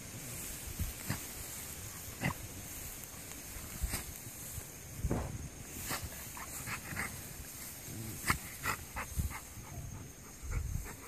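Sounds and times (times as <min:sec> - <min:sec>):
rustling in grass: 0:00.0 - 0:11.0.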